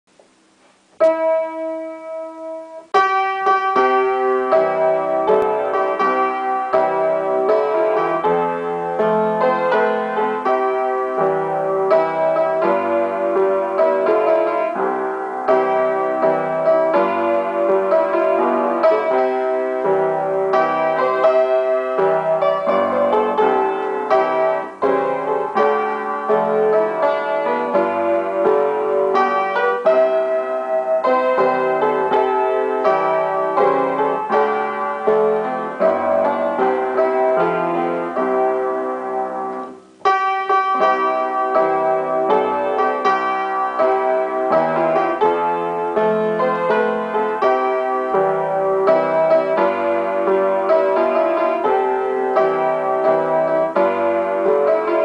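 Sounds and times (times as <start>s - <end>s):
upright piano playing hymn chords: 0.1s - 55.0s.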